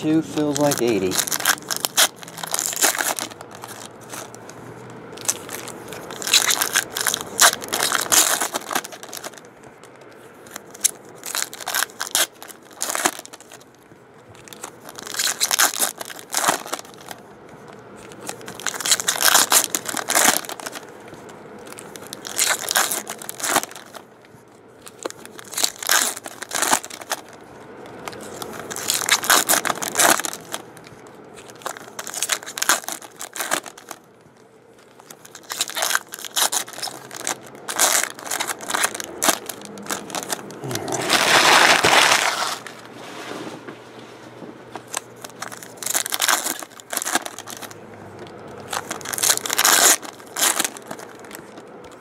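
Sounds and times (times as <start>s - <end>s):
foil packs torn and crinkled: 0.0s - 9.5s, 10.2s - 24.1s, 24.8s - 34.1s, 34.7s - 42.9s, 44.8s - 52.0s.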